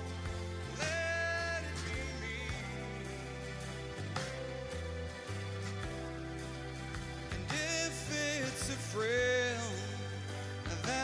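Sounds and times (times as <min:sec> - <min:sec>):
band accompaniment: 0:00.0 - 0:11.0.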